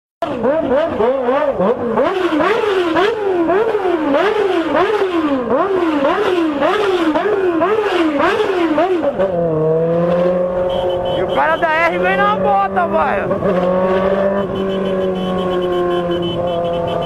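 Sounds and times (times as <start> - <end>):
vehicle engine revving in blips: 0.2 - 17.0.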